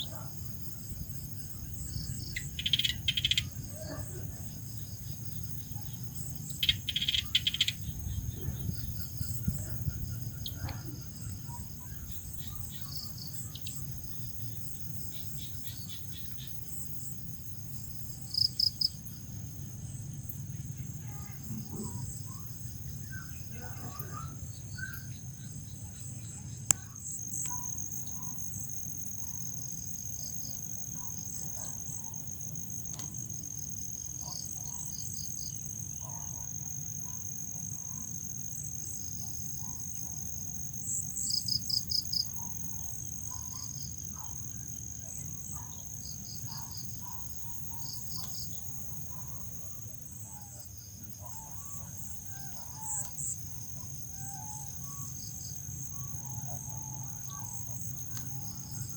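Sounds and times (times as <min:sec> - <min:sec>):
cricket high-pitched trill: 0:00.0 - 0:58.9
crickets chirping in bursts: 0:00.0 - 0:58.9.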